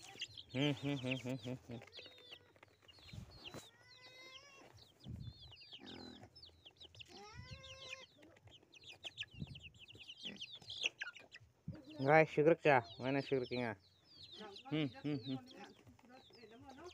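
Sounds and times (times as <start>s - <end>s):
chicks peeping and cheeping: 0.0s - 16.9s.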